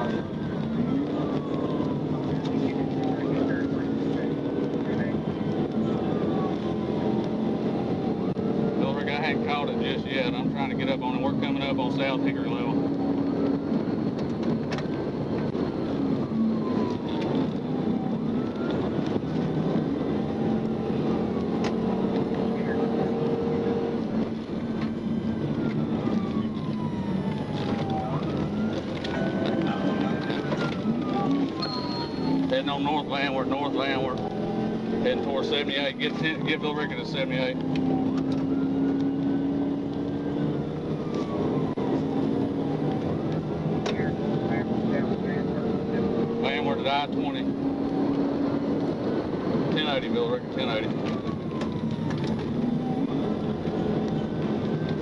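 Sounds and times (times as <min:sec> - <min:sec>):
car engine hum: 0:00.0 - 0:55.0
faint siren wailing: 0:00.0 - 0:55.0
road and wind noise: 0:00.0 - 0:55.0.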